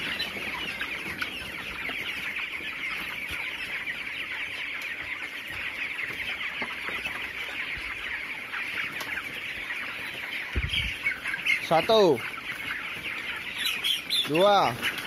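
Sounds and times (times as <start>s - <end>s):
chickens peeping and chirping: 0.0s - 15.0s.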